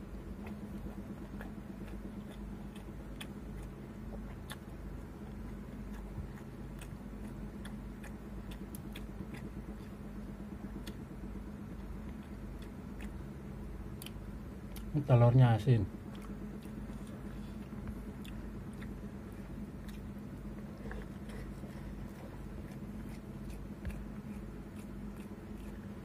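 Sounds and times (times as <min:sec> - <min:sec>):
steady low hum: 0:00.0 - 0:26.0
chewing: 0:00.1 - 0:15.2, 0:15.9 - 0:26.0.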